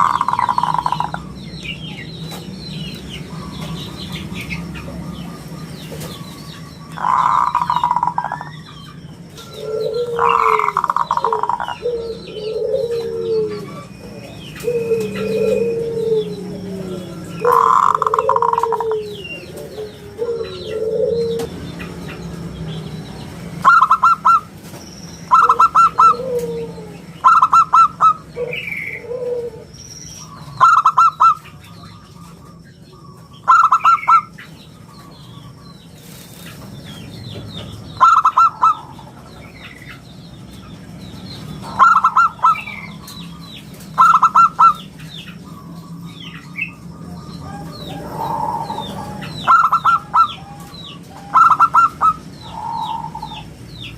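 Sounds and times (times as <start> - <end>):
dove cooing: 0.0 - 1.4, 3.3 - 22.3, 23.6 - 24.5, 25.3 - 36.3, 37.9 - 39.8, 41.5 - 53.9
small birds chirping: 0.0 - 53.9.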